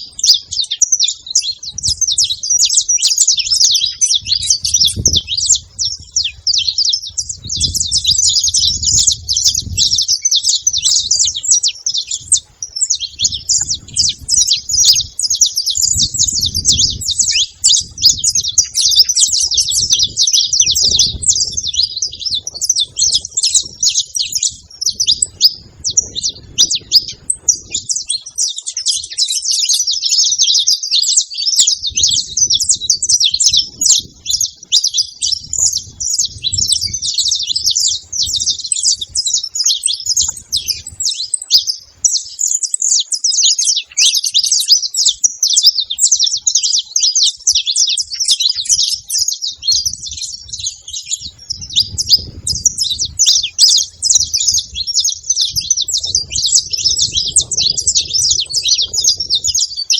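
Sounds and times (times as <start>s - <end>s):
finches chirping and singing: 0.0s - 59.9s.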